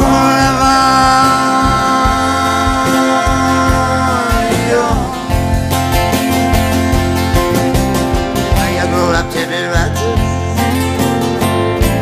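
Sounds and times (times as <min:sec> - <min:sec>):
acoustic country song with guitar: 0:00.0 - 0:12.0.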